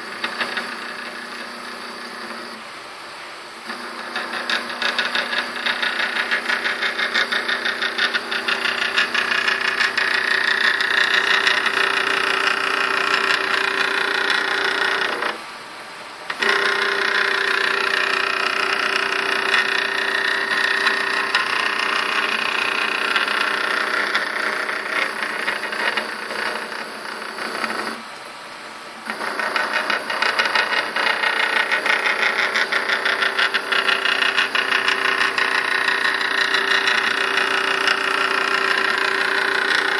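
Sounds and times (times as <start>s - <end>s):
stepper motors buzzing whine: 0.0s - 2.8s, 3.6s - 15.6s, 16.2s - 28.2s, 29.0s - 39.9s.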